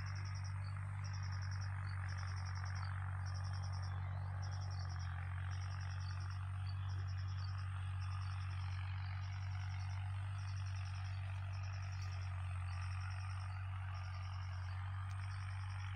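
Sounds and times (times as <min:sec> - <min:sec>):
insect chirping trills: 0:00.0 - 0:15.9
steady low hum: 0:00.0 - 0:15.9.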